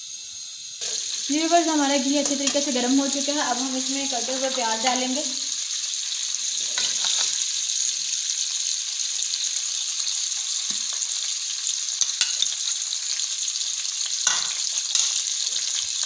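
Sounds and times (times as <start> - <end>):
onions sizzling in hot fat: 0.0 - 16.0.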